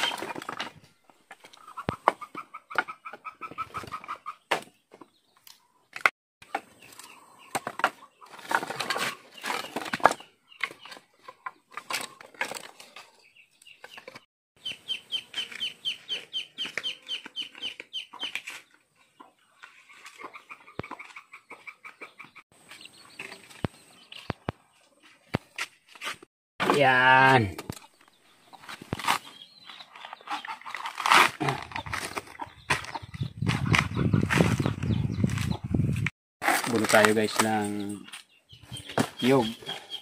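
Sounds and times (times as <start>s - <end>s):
chickens clucking: 1.4s - 25.6s, 27.6s - 36.0s.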